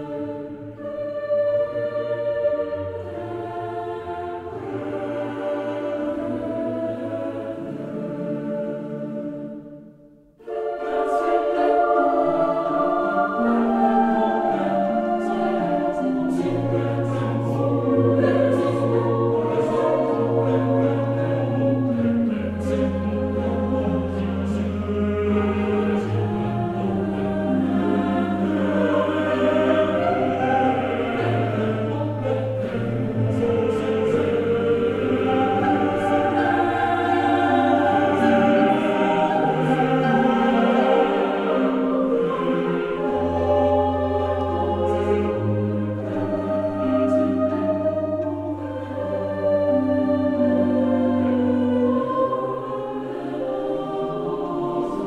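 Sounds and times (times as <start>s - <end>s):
choir singing sustained chords: 0.0s - 55.0s.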